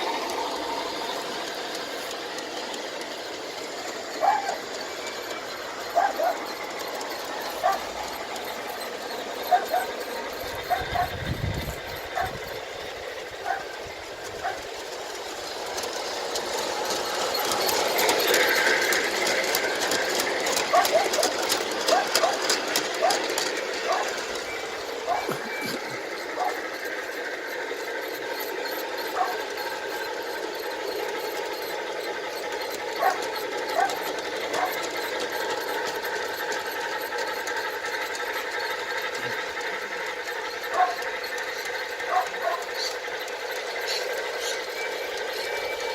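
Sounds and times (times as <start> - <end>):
model locomotive running on track: 0.0 - 45.9.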